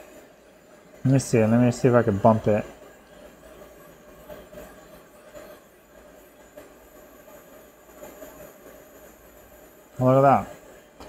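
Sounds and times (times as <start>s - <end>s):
hot air station blowing: 0.0s - 11.0s.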